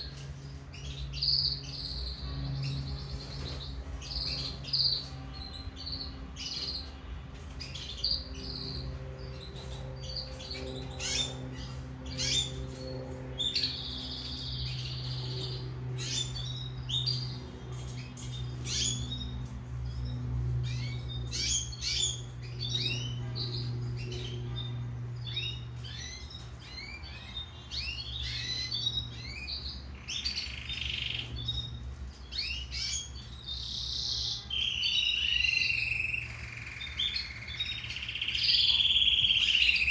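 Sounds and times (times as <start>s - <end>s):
canary singing: 0.0s - 39.9s
low steady hum: 0.0s - 39.9s.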